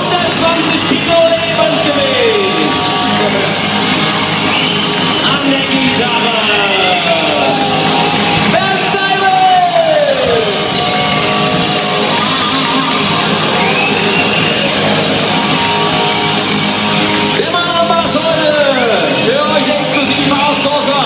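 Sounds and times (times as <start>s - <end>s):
electric guitar bending notes: 0.0s - 19.2s
rock band playing live: 0.0s - 21.0s.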